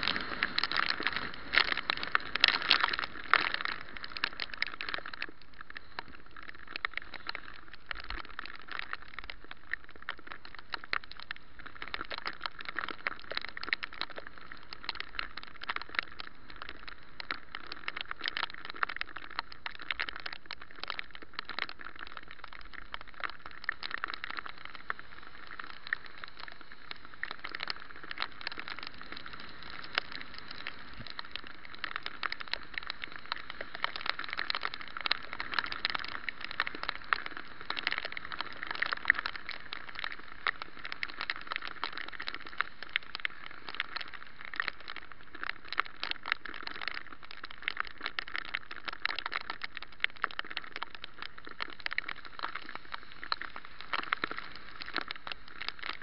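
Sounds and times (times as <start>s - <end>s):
rain and wet tyres hissing: 0.0s - 56.0s
small irregular ticks: 0.0s - 56.0s.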